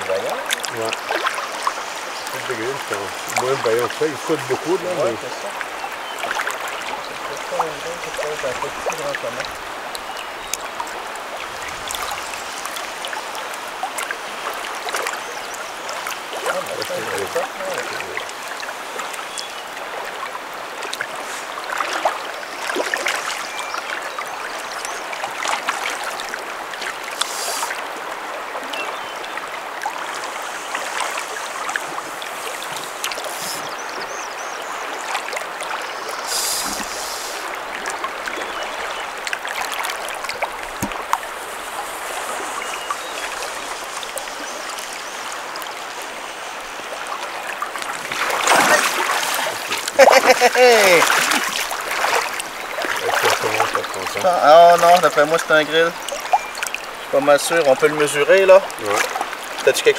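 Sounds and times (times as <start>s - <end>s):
fish splashing: 0.0s - 59.9s
river current over riffle: 0.0s - 59.9s.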